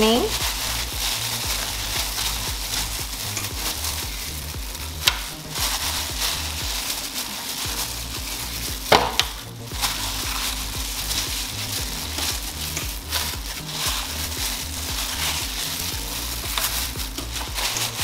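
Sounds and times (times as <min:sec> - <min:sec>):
foil pan crackling: 0:00.0 - 0:18.0
plastic glove crinkling: 0:00.0 - 0:18.0.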